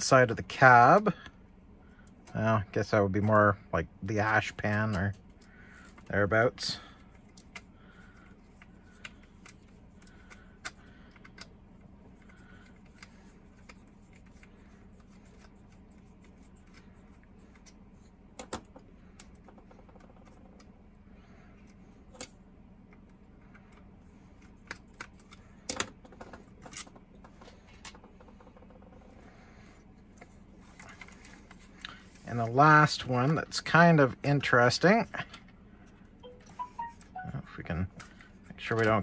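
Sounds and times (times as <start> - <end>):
faint low hum: 0.0 - 39.0.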